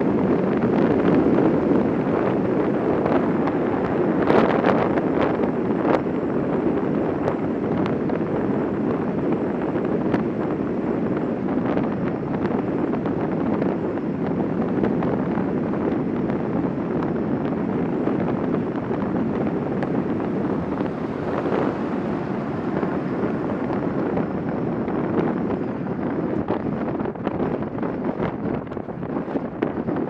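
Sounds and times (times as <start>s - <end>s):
wheels rolling noise: 0.0s - 30.0s
wind rushing over microphone: 0.0s - 30.0s.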